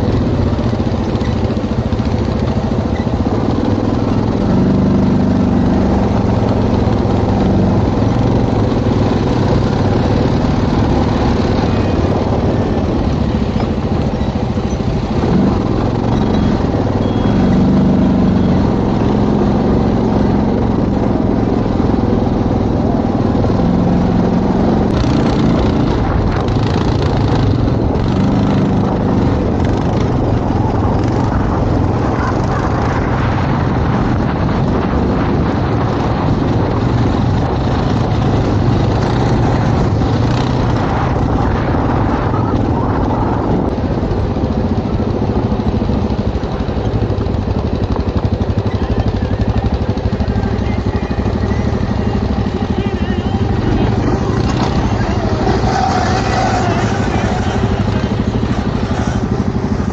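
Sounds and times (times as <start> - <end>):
atv engine revving: 0.0 - 59.9
rattling ride noise: 0.0 - 59.9.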